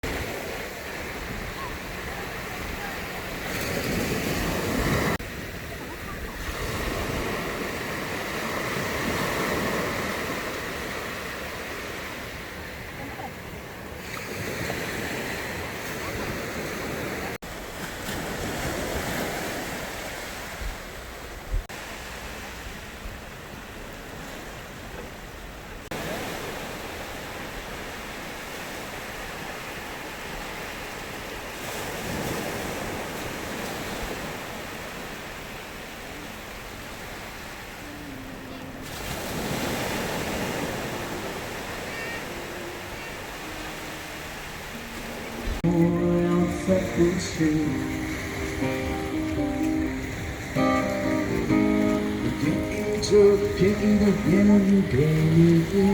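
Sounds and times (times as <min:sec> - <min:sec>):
sea waves breaking on a beach: 0:00.0 - 0:55.9.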